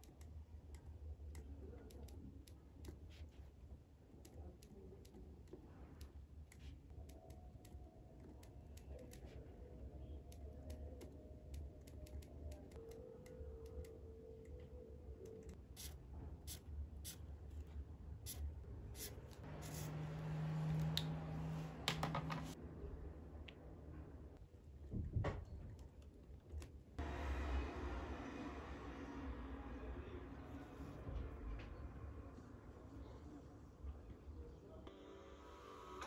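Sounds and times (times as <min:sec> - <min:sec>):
low room hum: 0:00.0 - 0:36.0.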